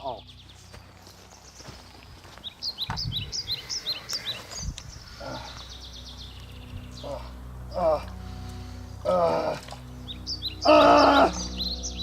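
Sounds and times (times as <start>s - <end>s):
bird chirping: 0.0s - 12.0s
outdoor background noise: 0.0s - 12.0s.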